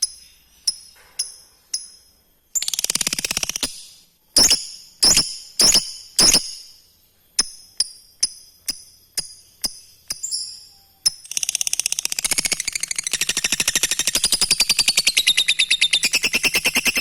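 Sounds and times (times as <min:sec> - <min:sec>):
lovebird chirping and trilling: 0:02.6 - 0:06.8, 0:07.4 - 0:17.0.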